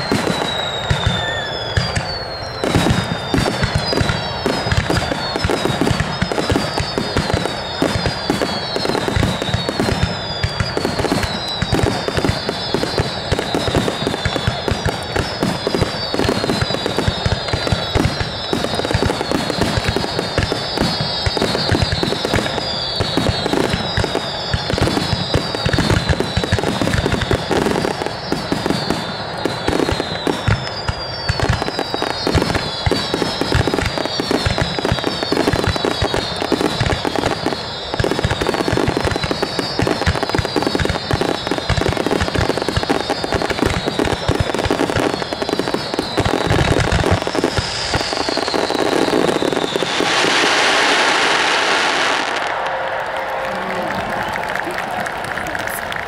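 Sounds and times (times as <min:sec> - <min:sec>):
falling firework whistles: 0:00.0 - 0:56.0
firework bursts and crackling: 0:00.0 - 0:56.0.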